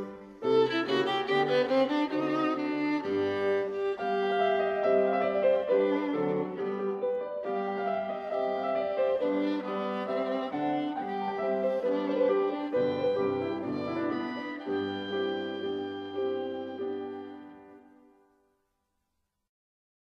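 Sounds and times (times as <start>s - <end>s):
violin melody: 0.0s - 18.2s.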